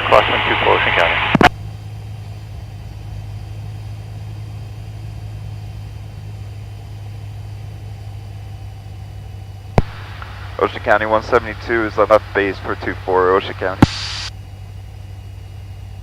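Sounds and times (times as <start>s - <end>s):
piston aircraft engine droning: 0.0s - 16.0s.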